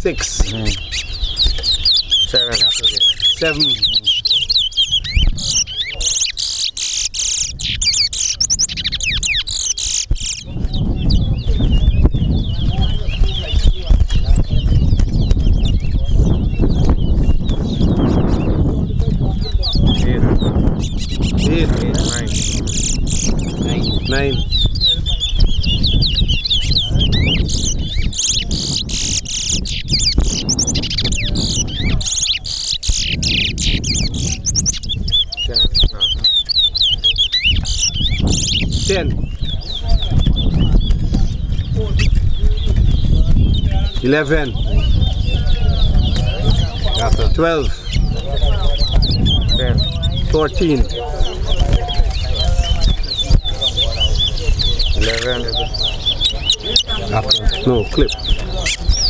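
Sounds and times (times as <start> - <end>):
finch singing: 0.0 - 59.0
songbirds warbling: 0.0 - 59.0.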